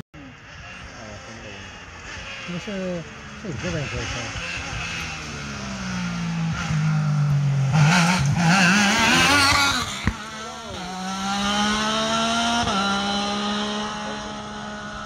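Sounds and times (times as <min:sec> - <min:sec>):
race car engine revving: 0:00.2 - 0:15.0.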